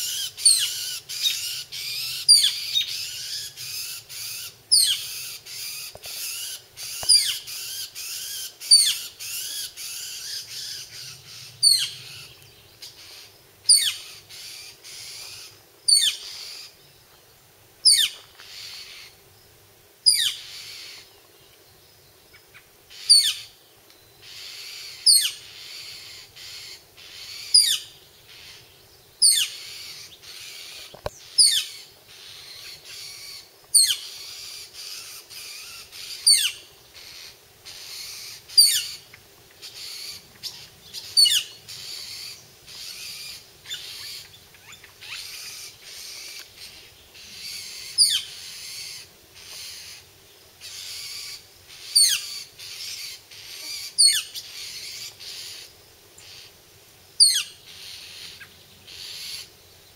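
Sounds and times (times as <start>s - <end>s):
birds chattering: 0.0s - 59.9s.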